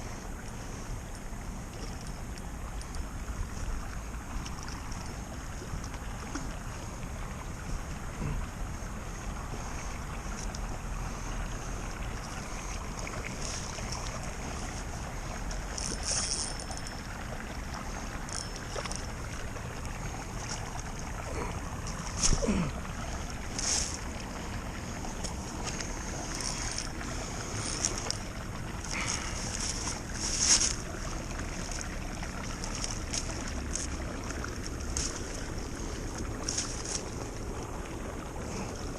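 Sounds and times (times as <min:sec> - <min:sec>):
creek water running: 0:00.0 - 0:38.9.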